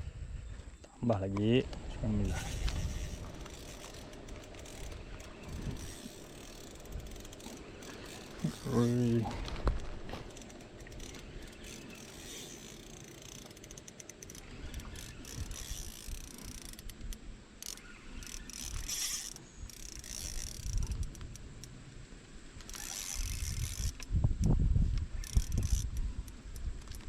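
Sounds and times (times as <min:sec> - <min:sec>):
fishing reel ratcheting whir: 0:02.1 - 0:09.2, 0:09.8 - 0:21.8, 0:22.6 - 0:24.1, 0:25.1 - 0:27.0.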